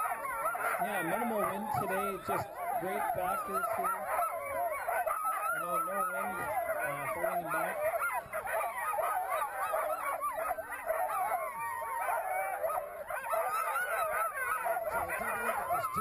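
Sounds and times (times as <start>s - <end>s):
sled dogs yelping and howling: 0.0s - 16.0s.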